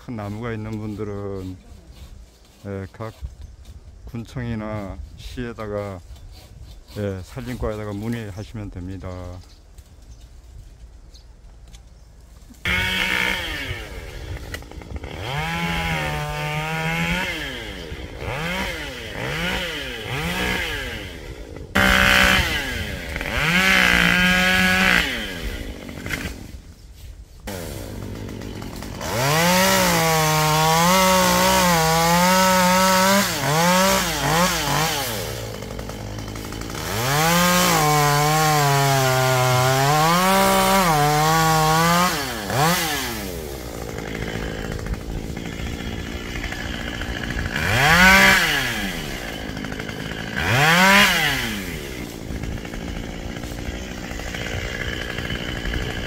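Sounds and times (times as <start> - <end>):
chainsaw cutting tree limbs: 0.0 - 3.8, 4.8 - 8.2, 11.7 - 56.0.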